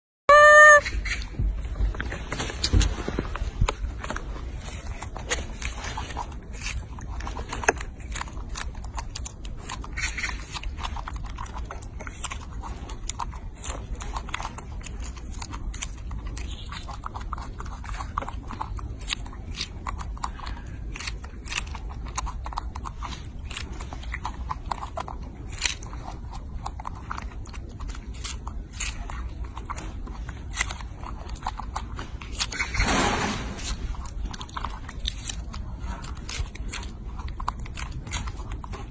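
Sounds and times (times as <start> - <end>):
low steady rumble: 0.3 - 38.9
monkey chewing and munching: 0.3 - 38.9.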